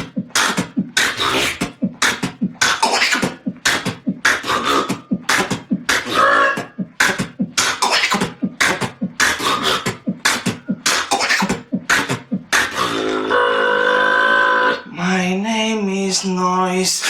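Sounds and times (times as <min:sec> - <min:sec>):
man beatboxing: 0:00.0 - 0:17.0.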